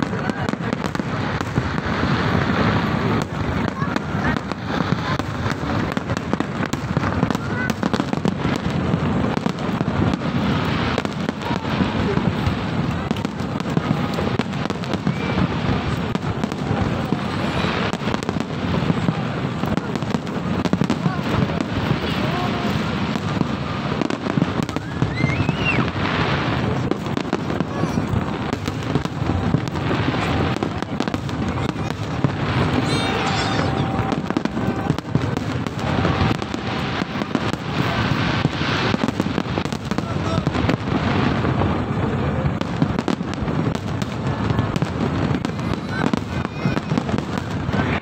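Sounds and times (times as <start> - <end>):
fireworks popping and crackling: 0.0 - 48.0.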